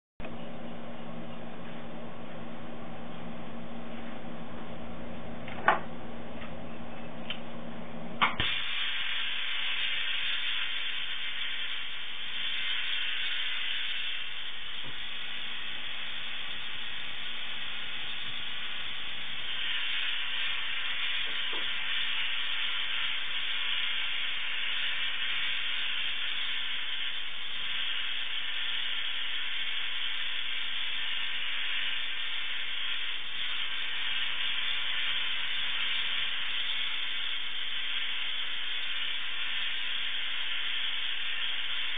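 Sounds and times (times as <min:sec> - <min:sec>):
tesla coil spark hiss: 0:08.2 - 0:41.9.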